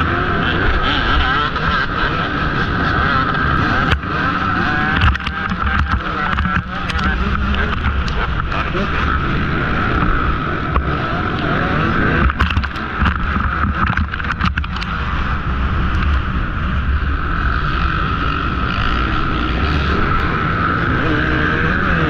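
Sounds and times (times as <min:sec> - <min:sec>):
dirt bike engine revving: 0:00.0 - 0:22.0
other dirt bikes: 0:00.0 - 0:22.0.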